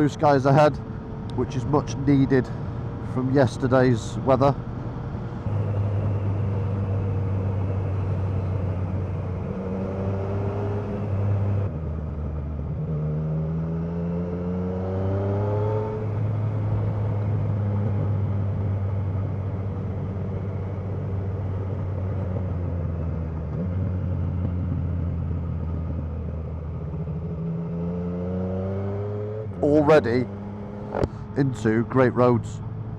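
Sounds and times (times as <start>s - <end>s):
motorcycle engine accelerating: 4.9s - 31.4s.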